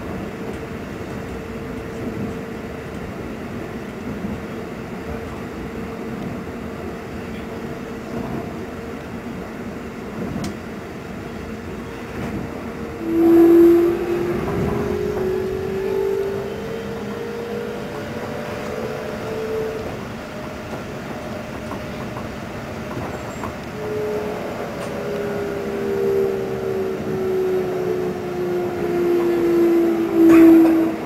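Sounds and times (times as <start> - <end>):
humming train motor tone: 0.0 - 31.0
train rolling rumble: 0.0 - 31.0.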